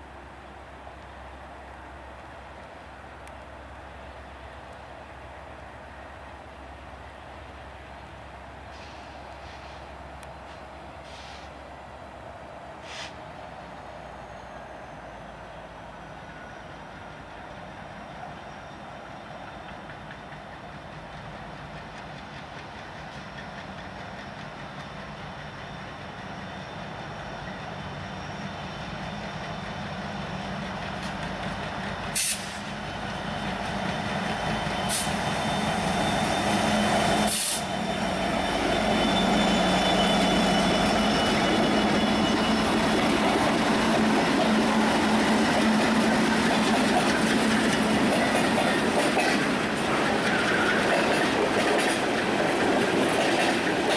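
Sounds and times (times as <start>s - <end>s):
train rumbling: 0.0s - 53.9s.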